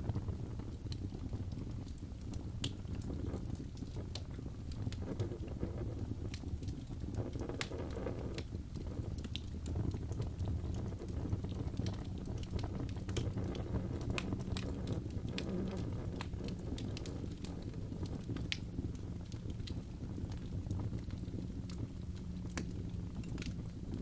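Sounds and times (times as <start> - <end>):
burning logs crackling and popping: 0.0 - 24.0
fire flames rumbling: 0.0 - 24.0.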